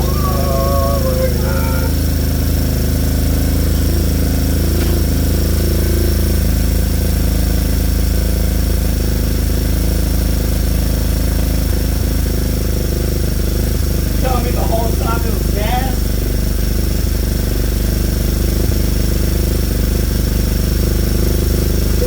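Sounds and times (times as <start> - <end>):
motorbike engine putt-putt: 1.8 - 22.0.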